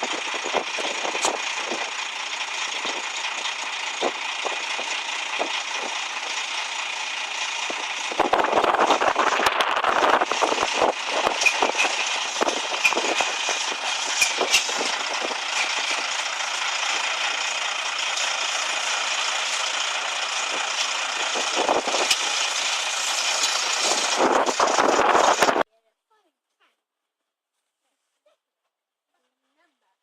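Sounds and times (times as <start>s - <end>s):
train hissing and rattling: 0.0s - 25.6s.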